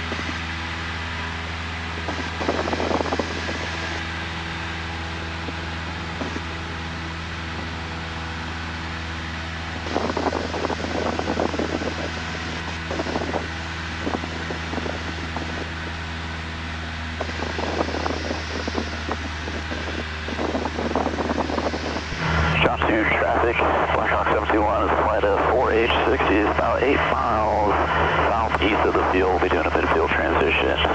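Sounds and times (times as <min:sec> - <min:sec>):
crackling noise: 0:00.0 - 0:30.9
propeller plane engine in cabin: 0:00.0 - 0:30.9.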